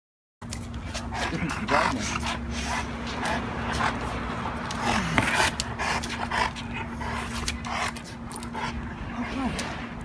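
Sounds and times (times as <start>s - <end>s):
dog panting heavily: 0.6s - 9.8s.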